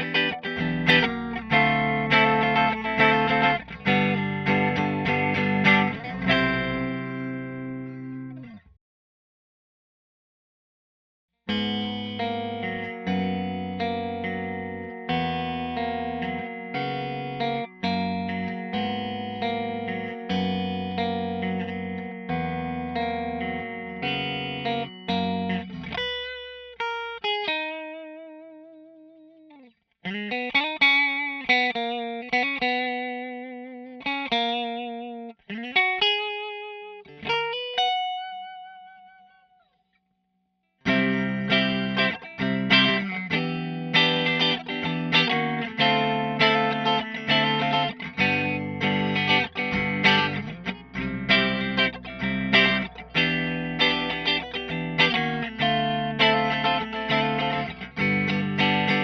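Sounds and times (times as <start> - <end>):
electric guitar playing: 0.0 - 8.6, 11.5 - 39.6, 40.8 - 59.0.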